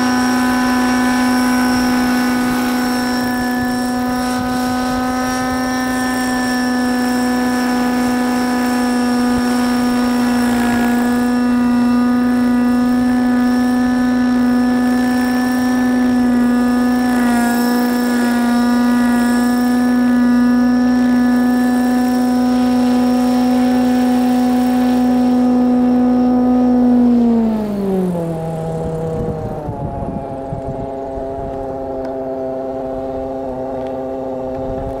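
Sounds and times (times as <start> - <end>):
model helicopter engine and rotor: 0.0 - 35.0.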